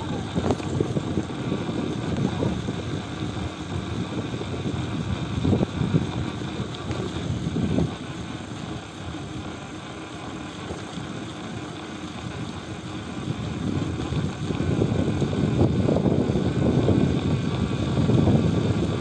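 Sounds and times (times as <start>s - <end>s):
wind buffeting microphone: 0.0s - 9.7s, 10.6s - 19.0s
tyre noise on asphalt: 0.0s - 19.0s.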